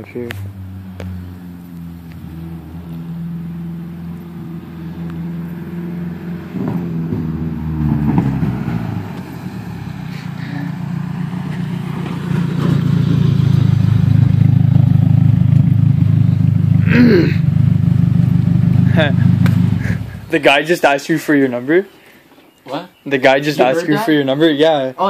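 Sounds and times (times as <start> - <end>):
car exhaust driving up: 0.0 - 21.0.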